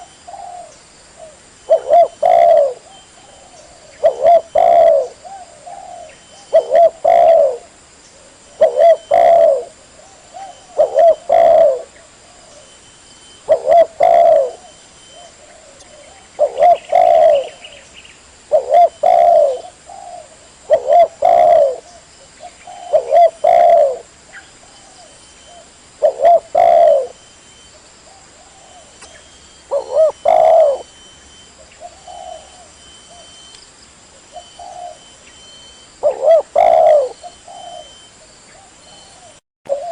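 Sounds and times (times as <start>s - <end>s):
dove cooing: 0.0s - 17.8s, 18.5s - 27.2s, 28.1s - 33.5s, 34.2s - 39.9s.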